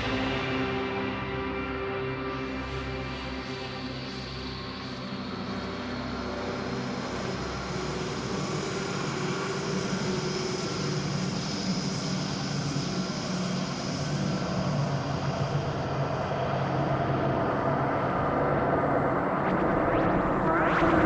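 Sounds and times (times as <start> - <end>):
dark ambient drone music: 0.0 - 21.0.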